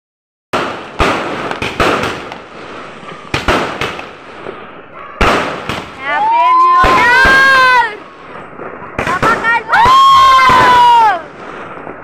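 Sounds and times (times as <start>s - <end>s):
fireworks bangs: 0.6s - 12.0s
fireworks crackling: 0.6s - 12.0s.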